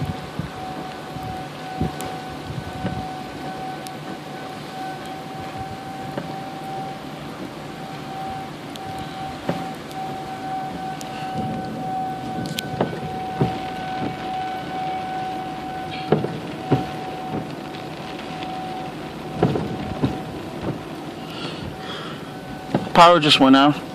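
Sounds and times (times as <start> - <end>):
warning siren steady tone: 0.0 - 23.9
wind and rain: 0.0 - 23.9.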